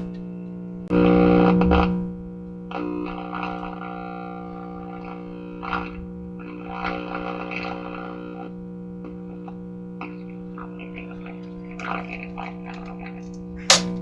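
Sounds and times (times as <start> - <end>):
crackly static bursts: 0.0 - 14.0
loud mains hum from radio speaker: 0.0 - 14.0.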